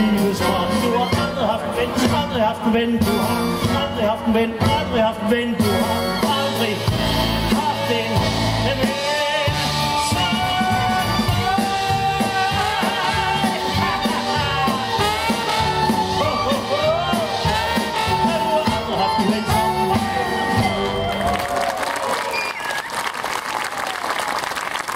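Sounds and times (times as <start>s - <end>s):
live swing band playing: 0.0s - 21.6s
man singing with vibrato: 0.0s - 21.7s.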